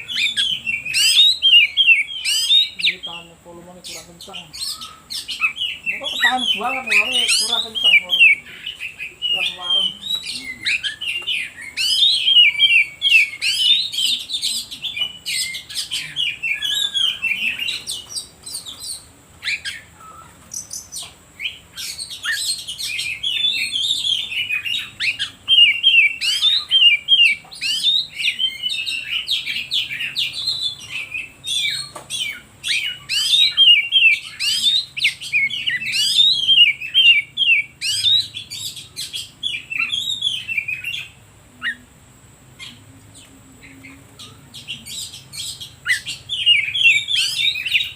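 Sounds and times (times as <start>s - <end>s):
songbird singing whistles and chirps: 0.0s - 3.3s, 3.9s - 41.9s, 42.5s - 47.9s.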